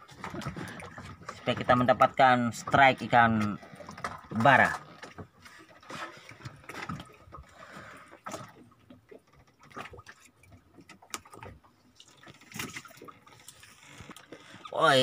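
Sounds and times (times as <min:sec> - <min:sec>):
water lapping against boat: 0:00.0 - 0:15.0.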